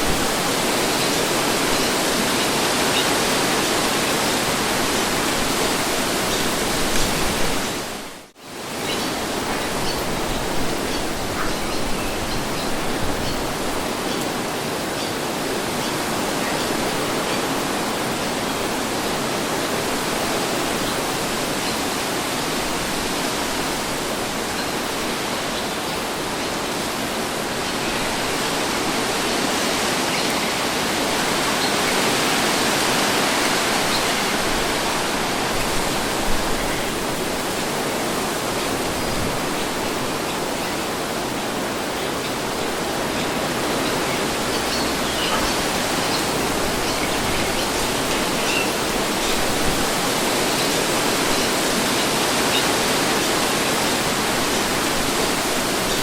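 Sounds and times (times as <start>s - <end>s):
steady wind blowing: 0.0s - 56.0s.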